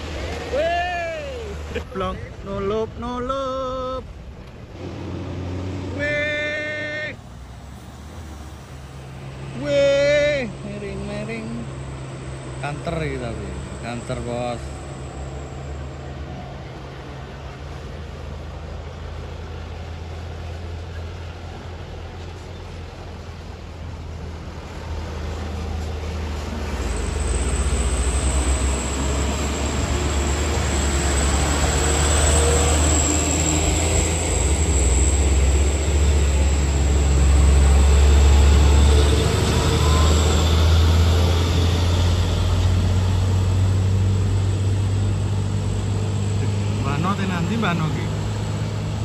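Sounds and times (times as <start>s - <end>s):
heavy trucks climbing uphill: 0.0s - 49.0s.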